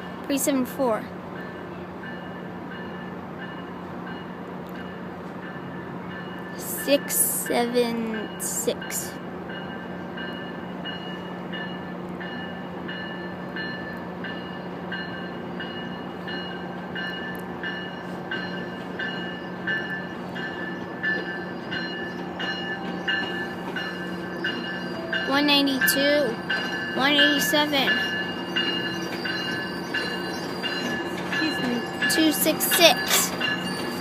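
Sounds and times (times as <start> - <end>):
train bell ringing: 0.0 - 34.0
train diesel engine hum: 0.0 - 34.0.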